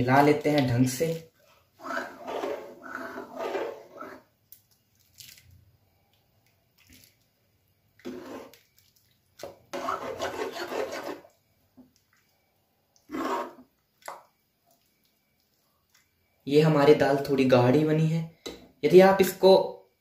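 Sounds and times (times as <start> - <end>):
wet squelching stirring: 0.2 - 16.4.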